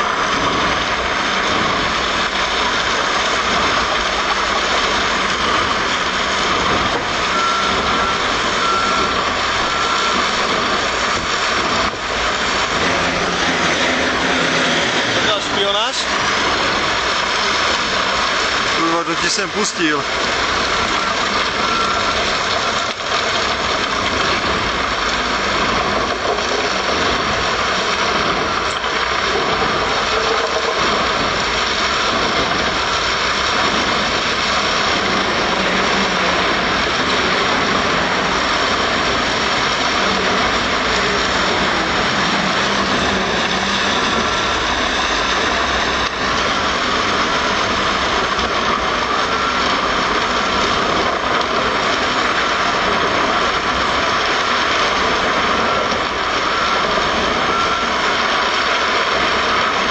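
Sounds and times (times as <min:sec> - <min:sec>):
wood chipper running loudly: 0:00.0 - 0:59.9.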